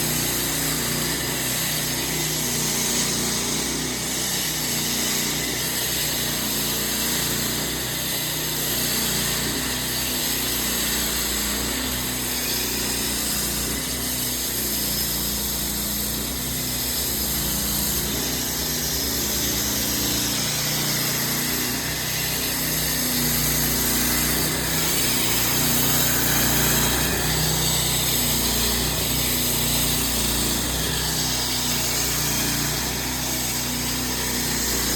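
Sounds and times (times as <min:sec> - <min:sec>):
concrete saw motor running: 0:00.0 - 0:34.9
saw blade grinding concrete: 0:00.0 - 0:34.9.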